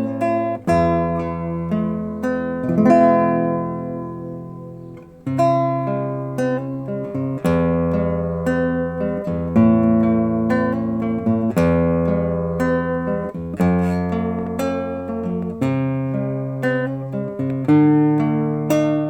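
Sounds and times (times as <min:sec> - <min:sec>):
fingerstyle acoustic guitar: 0:00.0 - 0:19.0.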